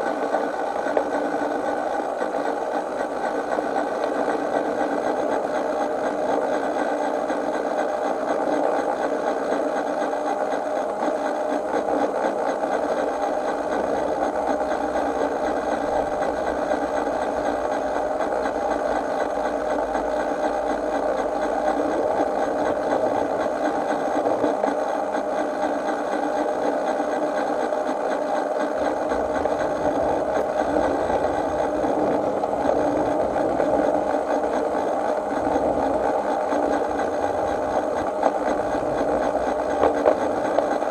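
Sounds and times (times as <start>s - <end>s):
miniature train wheels whirring: 0.0s - 40.9s.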